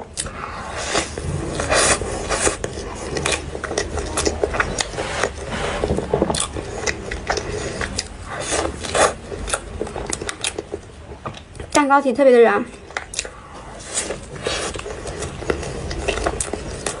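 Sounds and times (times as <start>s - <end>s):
person chewing with wet smacks: 0.0s - 11.9s, 12.6s - 17.0s.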